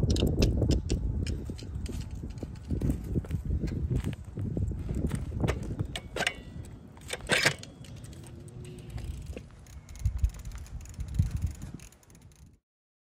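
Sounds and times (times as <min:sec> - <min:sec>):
bicycle clicking and rattling: 0:00.0 - 0:12.6.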